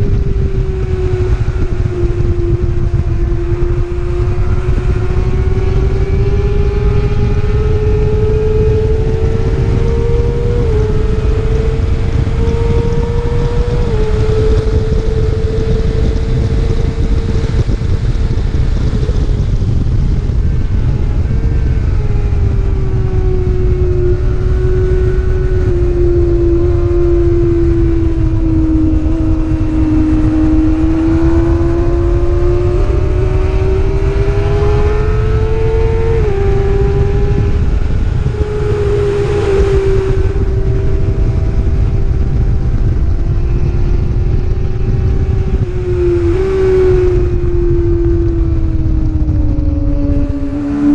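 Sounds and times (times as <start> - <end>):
motorbike engine running hard: 0.0 - 50.9
wind rush on microphone: 0.0 - 50.9.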